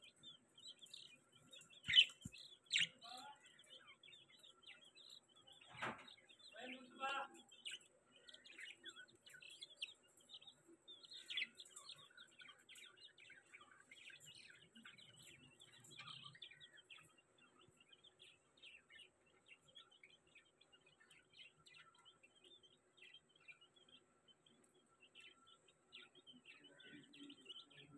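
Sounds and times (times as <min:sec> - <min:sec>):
birds chirping and peeping: 0:00.0 - 0:27.9.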